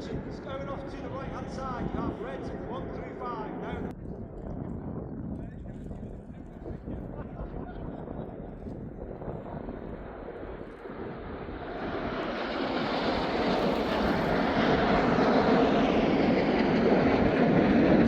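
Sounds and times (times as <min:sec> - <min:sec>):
jet aircraft roar: 0:00.0 - 0:18.0.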